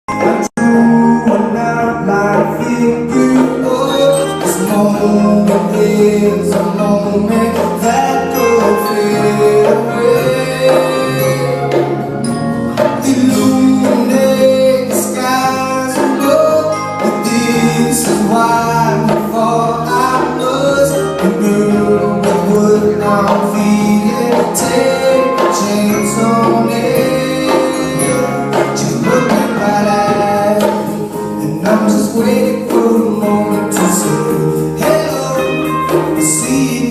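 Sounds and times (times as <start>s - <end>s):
music with singing: 0.1s - 36.9s
shaken percussion beat: 0.1s - 36.9s.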